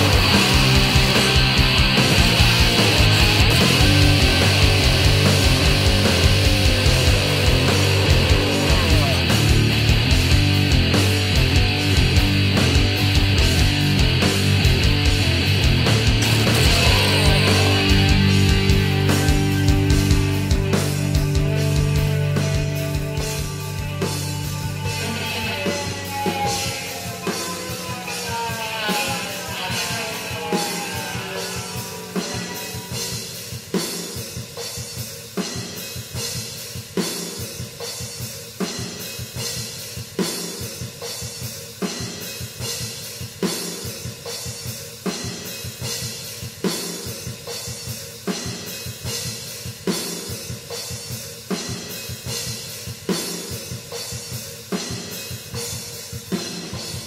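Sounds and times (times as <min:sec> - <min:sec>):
rock music with drum kit: 0:00.0 - 0:57.0.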